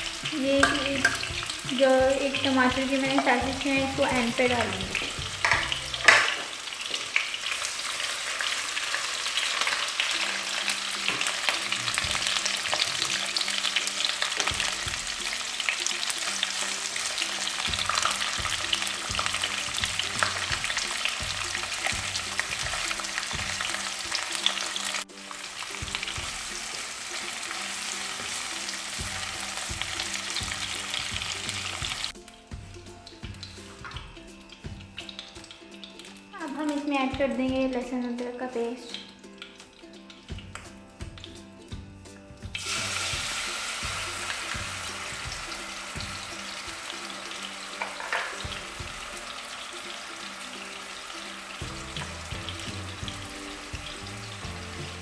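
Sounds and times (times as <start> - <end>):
soft background music: 0.0 - 55.0
vegetables sizzling in hot oil: 0.0 - 55.0.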